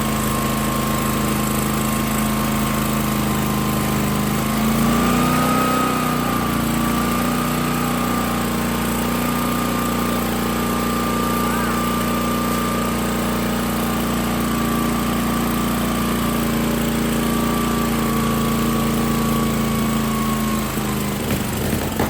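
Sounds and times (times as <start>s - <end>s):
pressure washer engine running: 0.0s - 22.0s.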